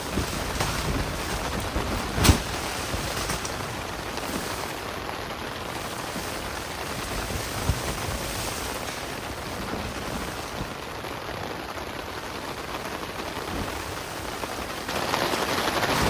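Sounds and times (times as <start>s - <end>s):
heavy rain on a tent: 0.0s - 16.0s.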